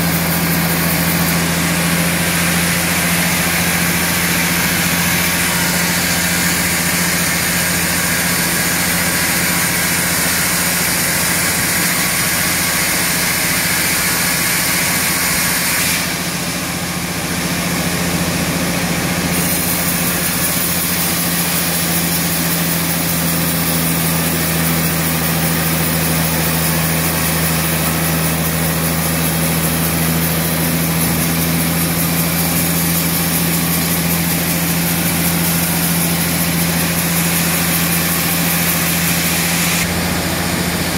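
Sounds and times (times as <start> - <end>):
band sawmill blade cutting log: 0.0 - 40.9.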